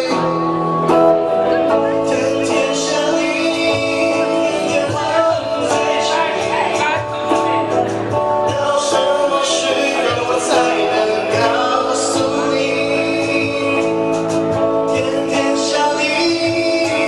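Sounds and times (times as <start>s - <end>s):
cajon beat: 0.0s - 17.0s
electric guitar strumming: 0.0s - 17.0s
man singing: 0.0s - 17.0s.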